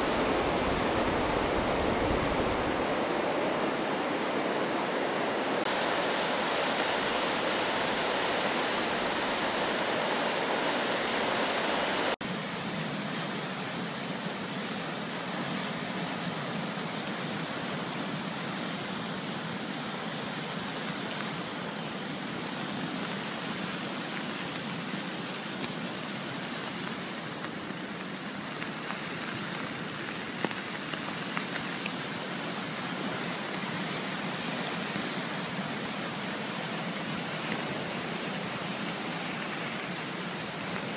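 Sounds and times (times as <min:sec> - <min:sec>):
floodwater rushing: 0:00.0 - 0:40.9
rain: 0:00.0 - 0:40.9.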